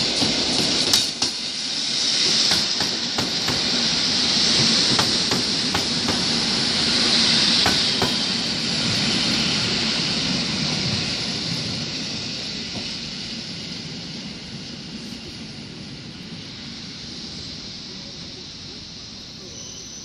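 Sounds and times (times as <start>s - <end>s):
electric train rolling past: 0.0s - 20.0s.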